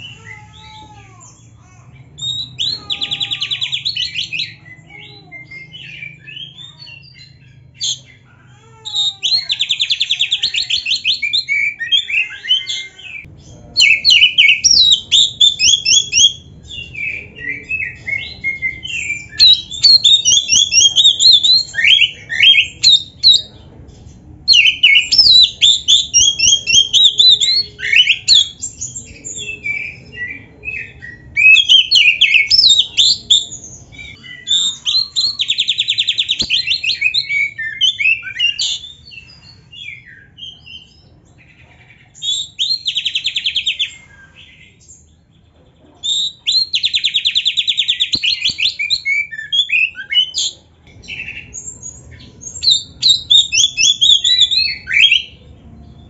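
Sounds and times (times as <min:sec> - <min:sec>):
magpie-robin singing: 0:00.0 - 0:45.4, 0:46.0 - 0:56.0.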